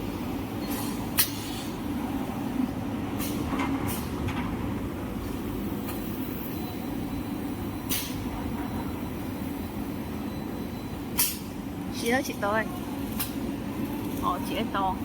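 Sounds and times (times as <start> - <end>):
machine mechanical hum: 0.0 - 15.0.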